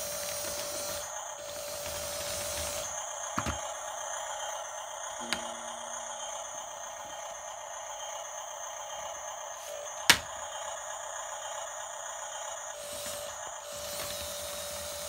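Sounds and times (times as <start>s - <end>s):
toy motor and gears whining: 0.0s - 15.0s.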